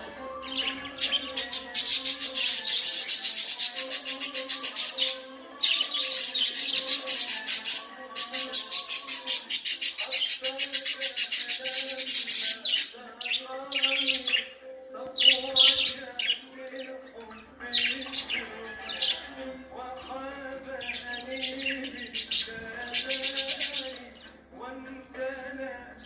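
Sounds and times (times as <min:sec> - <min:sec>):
background music with held tones: 0:00.0 - 0:26.0.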